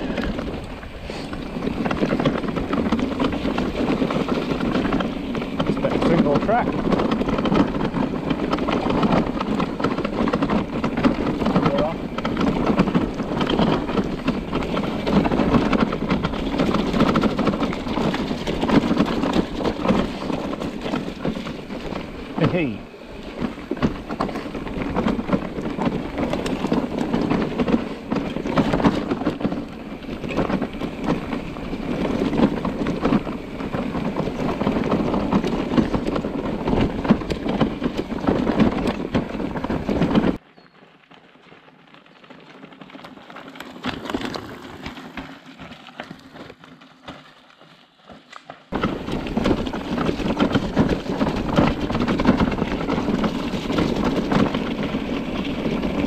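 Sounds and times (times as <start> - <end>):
mountain bike rattling over stones: 0.0 - 56.0.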